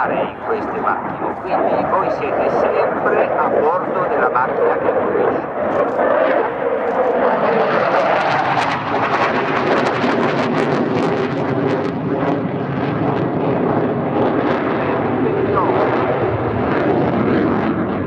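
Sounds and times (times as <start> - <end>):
jet engines roaring with crackle: 0.0 - 18.0.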